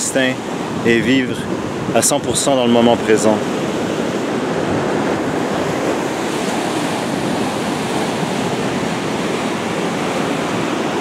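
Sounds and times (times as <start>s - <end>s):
ocean waves washing on beach: 0.0s - 11.0s.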